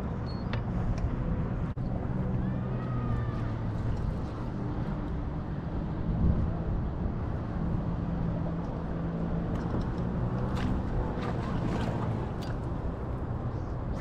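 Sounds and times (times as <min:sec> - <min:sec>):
wind: 0:00.0 - 0:14.0
water noise: 0:01.8 - 0:14.0.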